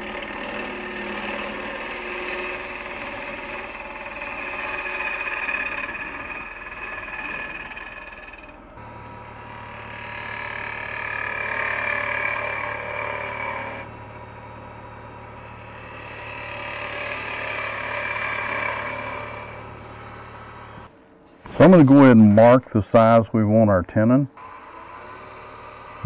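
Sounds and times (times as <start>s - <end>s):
gouge scraping spinning wood: 0.0s - 20.9s, 24.4s - 26.0s
wood lathe motor hum: 0.0s - 20.9s, 24.4s - 26.0s.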